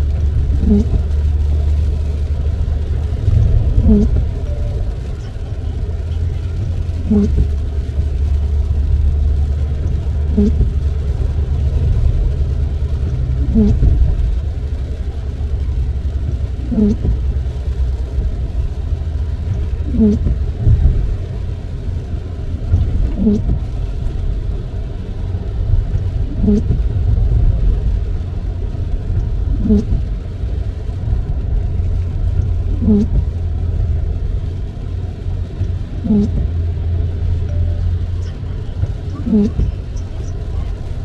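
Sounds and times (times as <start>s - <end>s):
car driving on wet highway: 0.0s - 41.0s
road and tyre rumble: 0.0s - 41.0s
windshield wiper squeaking: 0.2s - 18.0s, 19.5s - 21.4s, 22.5s - 24.0s, 25.9s - 27.3s, 28.1s - 30.1s, 31.2s - 34.1s, 35.6s - 41.0s.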